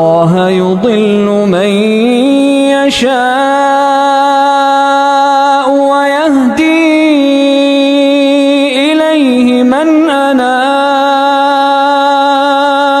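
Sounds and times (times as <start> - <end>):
person chanting recitation: 0.0 - 13.0.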